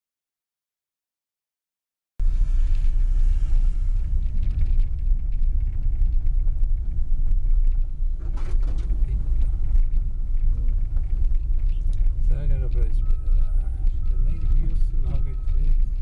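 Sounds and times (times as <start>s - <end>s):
engine and tyre rumble: 2.2s - 16.0s
rattles and knocks: 2.4s - 16.0s.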